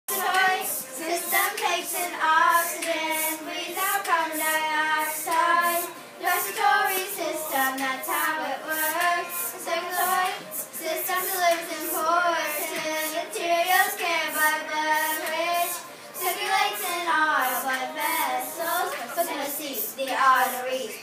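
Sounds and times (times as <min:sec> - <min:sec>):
children singing in unison: 0:00.1 - 0:20.0.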